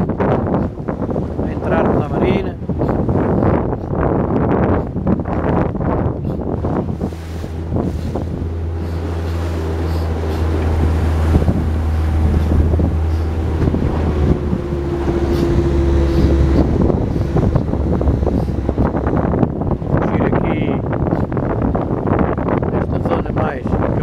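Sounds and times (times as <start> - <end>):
motorboat engine droning: 0.0 - 24.0
water splashing against hull: 0.0 - 24.0
wind on microphone: 0.0 - 24.0.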